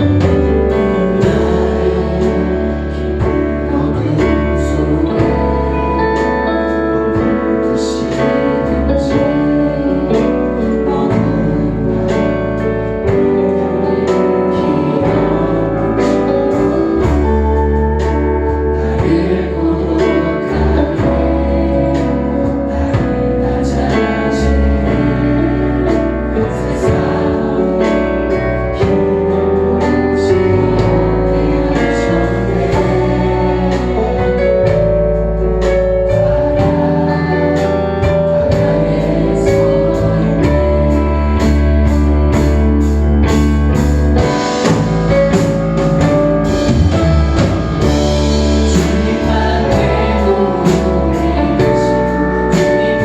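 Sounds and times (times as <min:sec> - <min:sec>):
drum kit beat with cymbals: 0:00.0 - 0:09.6, 0:11.1 - 0:53.0
singers: 0:00.0 - 0:42.6, 0:44.1 - 0:53.0
guitar: 0:00.0 - 0:53.0.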